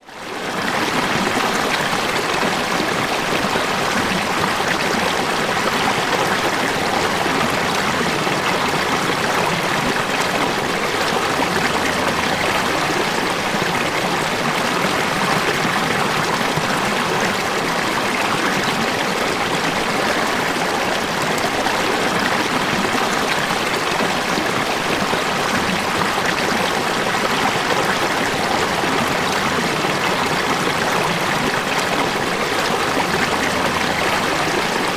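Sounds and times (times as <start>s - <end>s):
falling water rushing: 0.2s - 34.9s.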